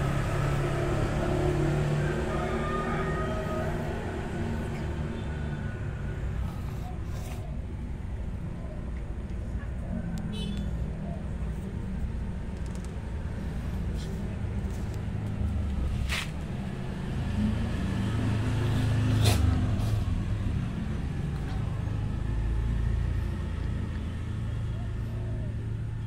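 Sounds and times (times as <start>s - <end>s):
vehicle engine humming: 0.0s - 26.0s.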